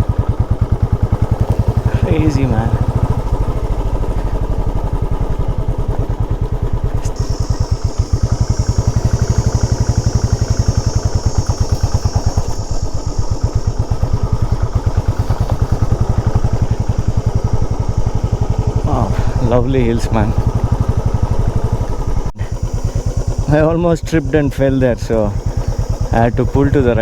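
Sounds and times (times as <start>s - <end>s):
motorcycle engine running: 0.0s - 27.0s
high-pitched hiss: 1.1s - 5.6s, 6.9s - 20.8s, 22.4s - 27.0s.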